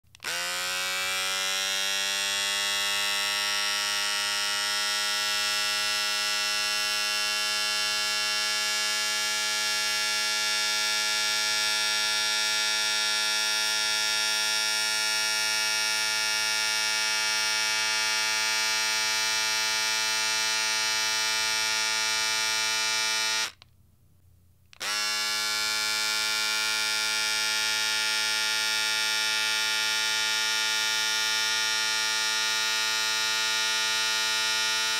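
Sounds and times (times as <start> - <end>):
electric shaver buzzing: 0.2 - 23.6, 24.8 - 34.9.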